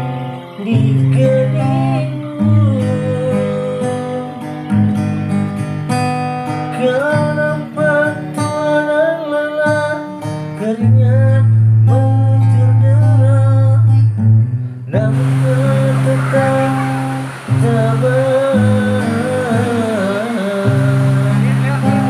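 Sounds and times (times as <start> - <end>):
acoustic guitar song: 0.0 - 22.0.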